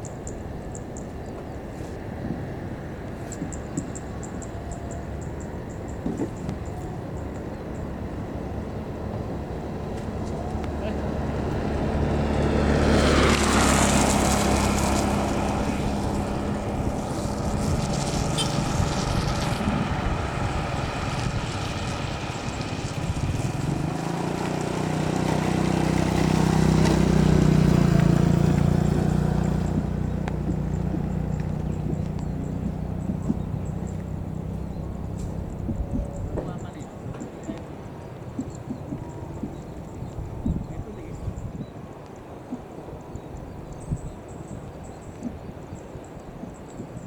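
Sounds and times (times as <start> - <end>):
deep engine hum: 0.0 - 47.0.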